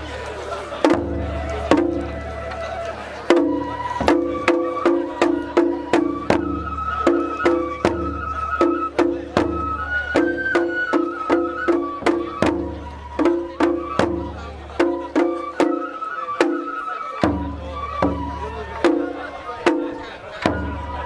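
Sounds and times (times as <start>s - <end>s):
flute melody: 0.0s - 21.0s
percussion strikes: 0.0s - 21.0s.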